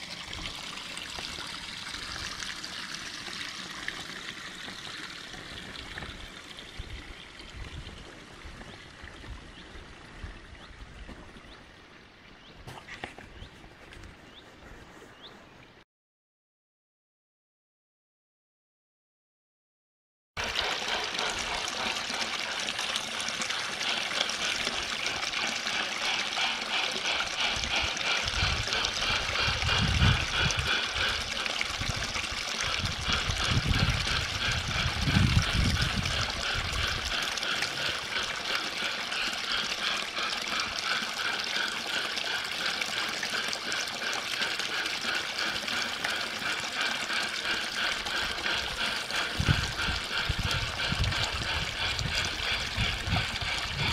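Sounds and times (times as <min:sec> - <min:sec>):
water trickling and splashing: 0:00.0 - 0:14.4, 0:20.4 - 0:53.9.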